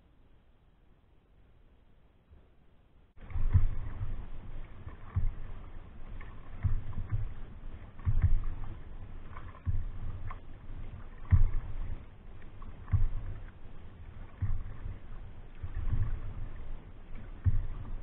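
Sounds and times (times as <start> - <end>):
low thuds: 3.2 - 18.0
water lapping against canoe hull: 3.2 - 18.0.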